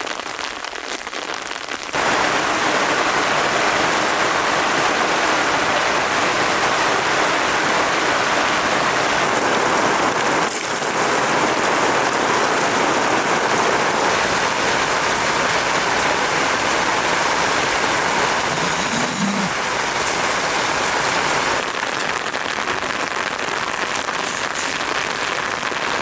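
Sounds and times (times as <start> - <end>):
heavy rain hissing: 2.0 - 26.0.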